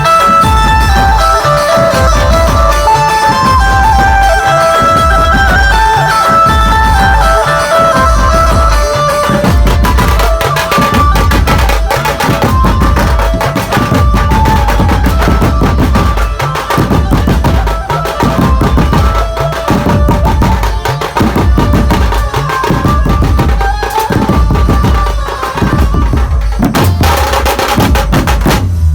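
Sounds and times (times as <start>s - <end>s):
lead melody: 0.0s - 27.5s
loud dense drumming: 0.0s - 28.9s.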